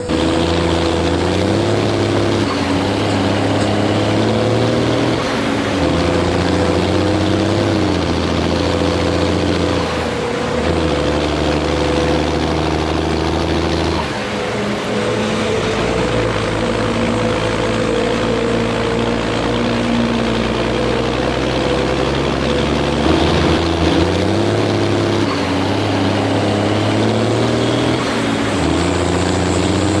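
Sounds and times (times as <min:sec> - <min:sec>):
combine harvester diesel engine: 0:00.0 - 0:30.0.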